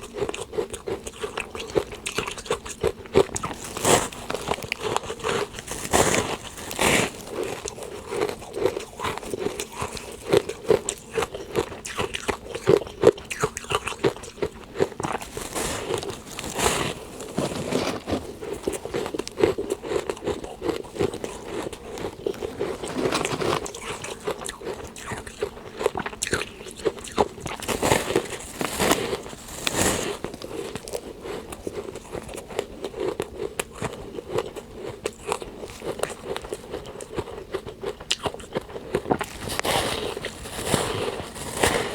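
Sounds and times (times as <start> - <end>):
crunching frost: 0.2 - 37.3, 38.2 - 41.9.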